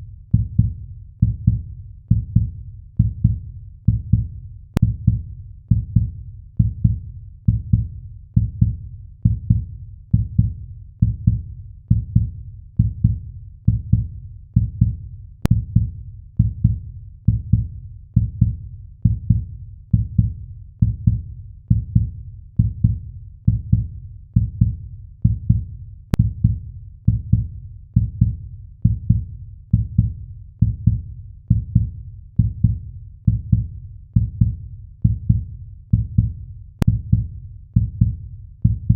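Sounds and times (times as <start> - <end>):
heartbeat thumps: 0.3 - 38.9.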